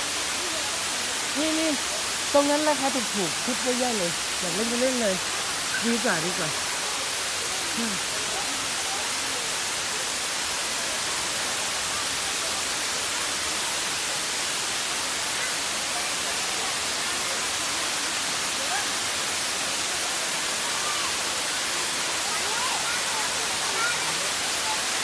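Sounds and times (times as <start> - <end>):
waterfall rushing and splashing: 0.0 - 25.0.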